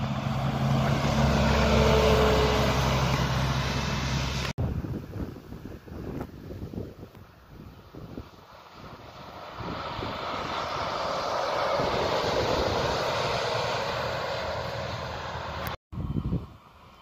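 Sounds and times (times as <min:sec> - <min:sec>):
bus driving past: 0:00.0 - 0:04.6, 0:07.2 - 0:17.0.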